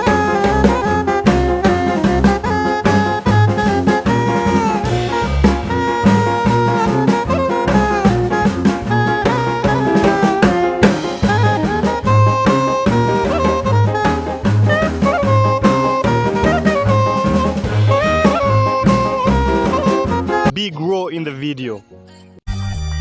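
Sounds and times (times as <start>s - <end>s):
bass line: 0.0s - 20.5s
drum kit: 0.0s - 20.5s
saxophone melody: 0.0s - 20.5s.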